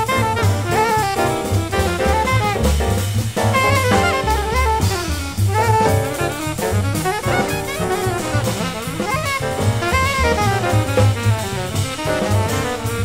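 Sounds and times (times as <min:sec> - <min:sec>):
alto saxophone solo: 0:00.0 - 0:13.0
drum kit with ride cymbal: 0:00.0 - 0:13.0
piano: 0:00.0 - 0:13.0
upright bass: 0:00.0 - 0:13.0.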